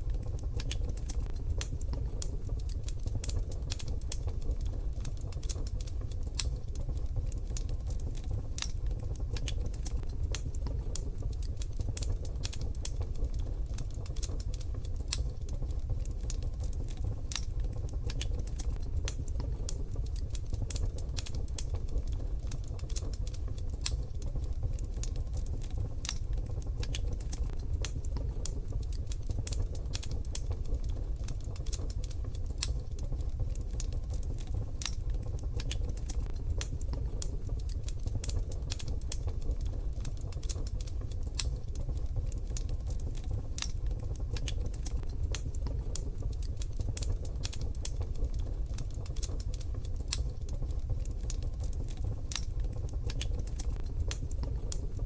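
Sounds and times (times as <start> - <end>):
wood fire crackling in stove: 0.0 - 55.0.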